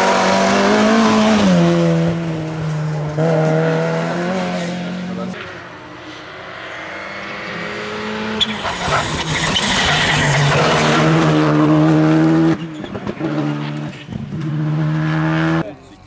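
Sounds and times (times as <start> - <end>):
rally car engine at high revs: 0.0 - 15.7.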